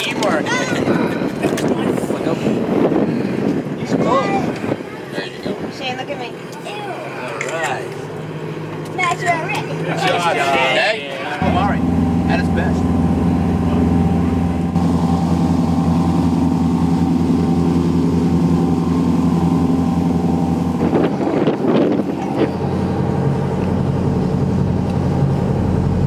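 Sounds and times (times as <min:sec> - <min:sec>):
boat engine running: 0:00.0 - 0:26.0
propeller wake churning: 0:00.0 - 0:26.0.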